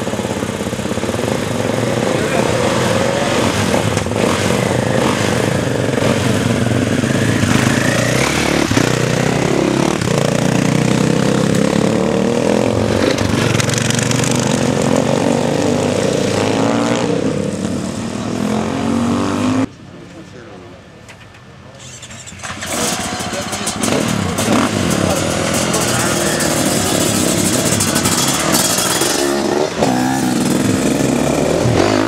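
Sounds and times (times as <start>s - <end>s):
motorcycle engines revving: 0.0s - 20.3s, 21.7s - 32.0s.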